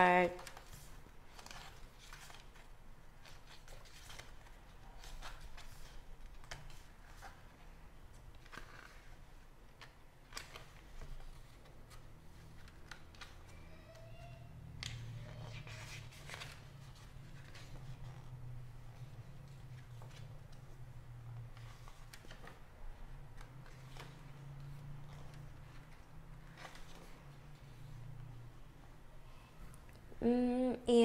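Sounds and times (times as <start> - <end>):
paper pages rustling: 0.4 - 28.4.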